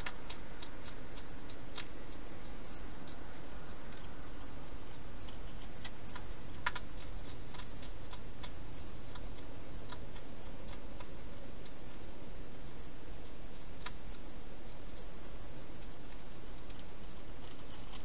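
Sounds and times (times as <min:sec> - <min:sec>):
hedgehog chewing clicks: 0:00.0 - 0:18.0.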